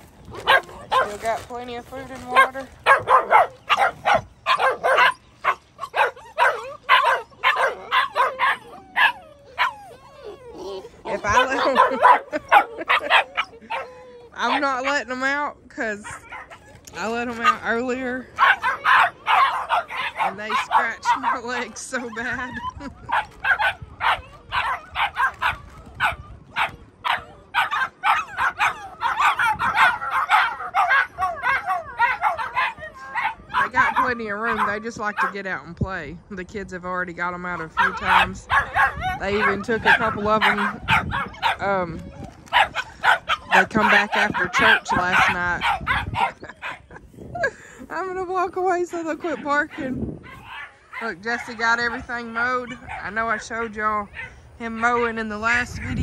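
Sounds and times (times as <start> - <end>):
puppies yipping and whining: 0.0 - 35.6, 37.5 - 56.0.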